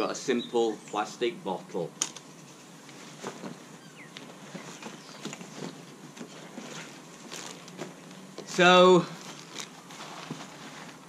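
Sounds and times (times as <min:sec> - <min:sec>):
camping gear rustling and knocking: 0:02.0 - 0:11.0.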